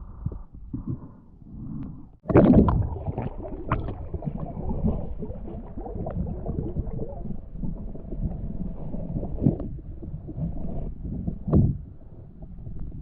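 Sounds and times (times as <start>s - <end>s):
water gurgling underwater: 0.0s - 13.0s
small bubbles crackling: 2.2s - 13.0s.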